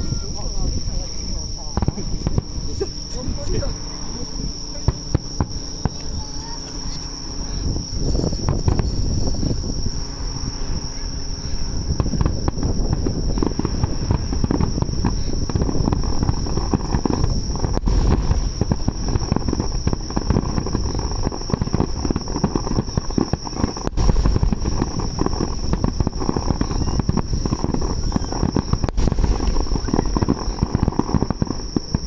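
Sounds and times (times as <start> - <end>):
fireworks bursting and crackling: 0.0 - 32.0
high trilling of insects: 0.0 - 32.0.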